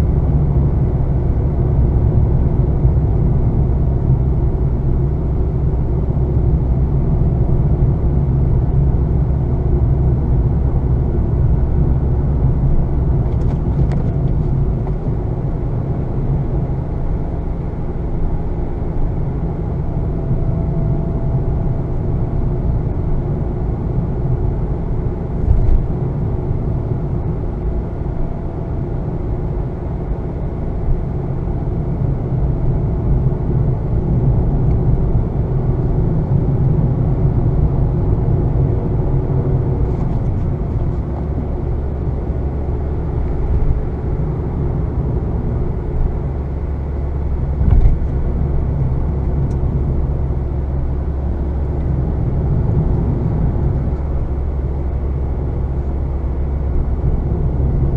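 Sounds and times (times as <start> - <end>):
car engine low rumble: 0.0 - 57.9.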